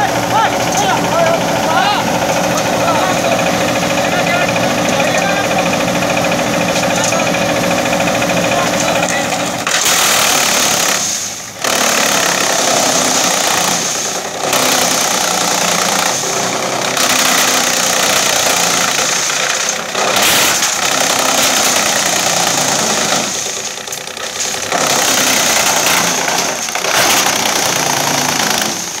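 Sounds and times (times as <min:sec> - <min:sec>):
engine running: 0:00.0 - 0:29.0
wood chipper shredding branches: 0:00.0 - 0:29.0.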